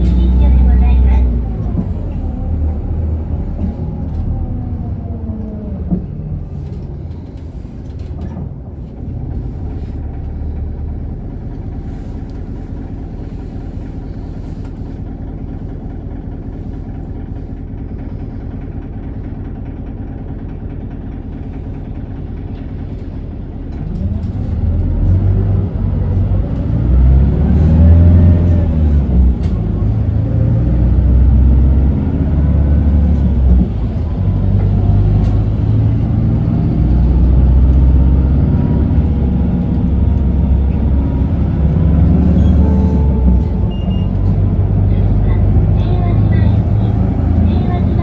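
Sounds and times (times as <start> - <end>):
bus diesel engine: 0.0 - 48.0.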